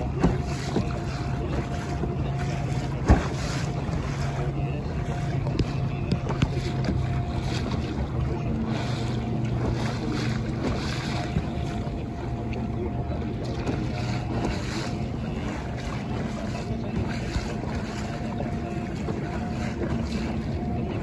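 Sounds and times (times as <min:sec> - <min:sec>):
boat engine running: 0:00.0 - 0:21.0
water washing along hull: 0:00.0 - 0:21.0.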